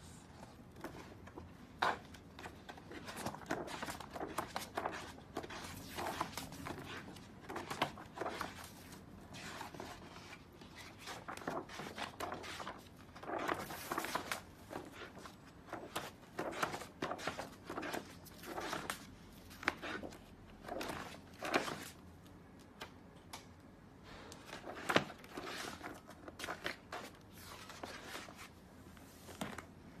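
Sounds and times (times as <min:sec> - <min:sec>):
stiff paper pages turning: 0:00.7 - 0:22.0, 0:24.4 - 0:28.5.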